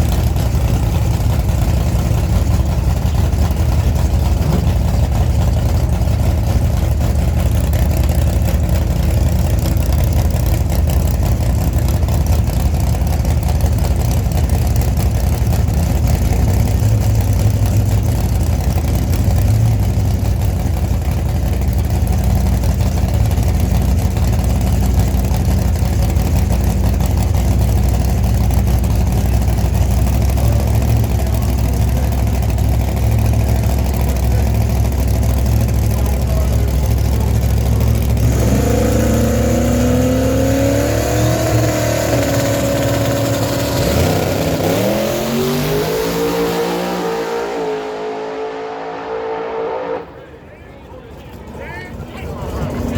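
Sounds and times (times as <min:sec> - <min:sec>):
pickup truck engine revving: 0:00.0 - 0:50.4.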